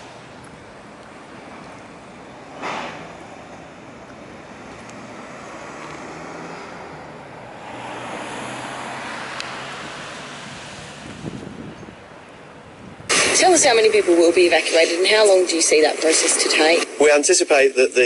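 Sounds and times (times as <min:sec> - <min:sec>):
vehicle passing: 0:00.0 - 0:16.8
road traffic noise: 0:00.0 - 0:18.0.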